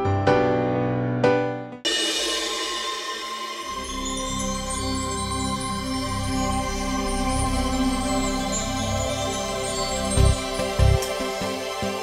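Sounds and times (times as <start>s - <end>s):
sustained soundtrack music: 1.9s - 12.0s.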